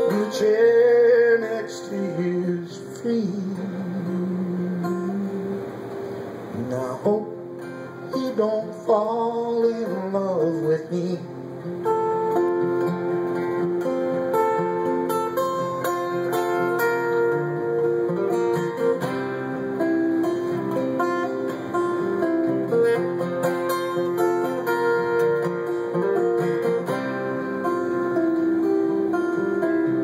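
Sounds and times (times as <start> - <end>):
acoustic guitar chords: 0.0 - 30.0.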